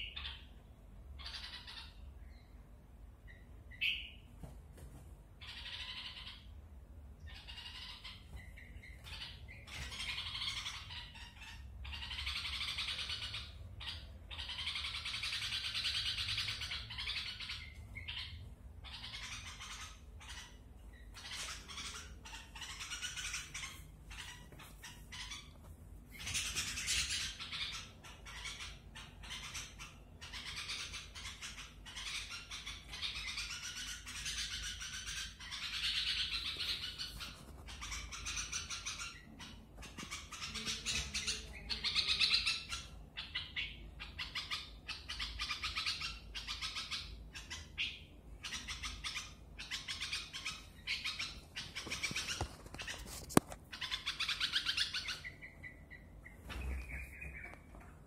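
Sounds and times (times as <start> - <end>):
baby bird chirping and squawking: 0.0 - 2.5, 5.4 - 57.9.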